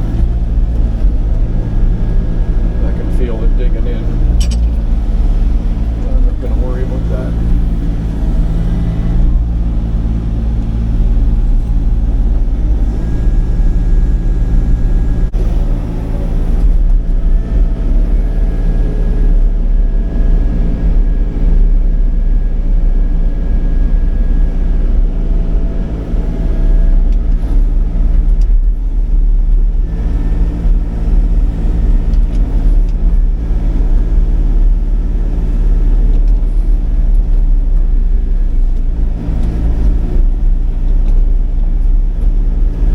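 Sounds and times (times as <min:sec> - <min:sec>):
excavator diesel engine drone: 0:00.0 - 0:42.9.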